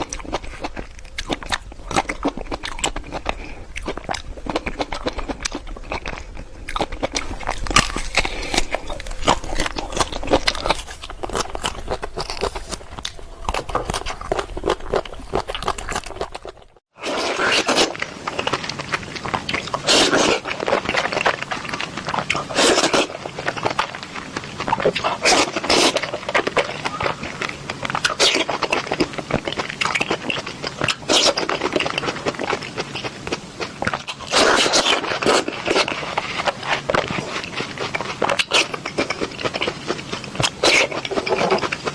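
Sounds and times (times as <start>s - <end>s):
biting and chewing crisp fruit: 0.0s - 41.9s.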